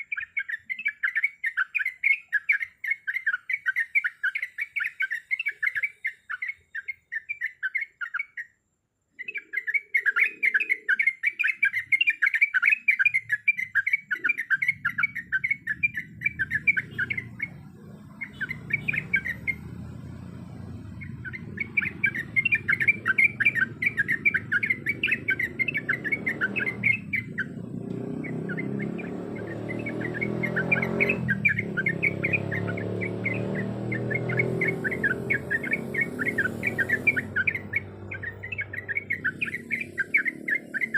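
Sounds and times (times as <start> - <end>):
bird singing bubbling chatter: 0.0 - 40.9.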